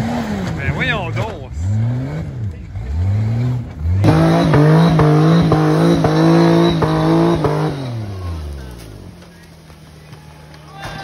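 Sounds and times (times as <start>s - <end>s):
buggy engine at high revs: 0.0s - 9.2s.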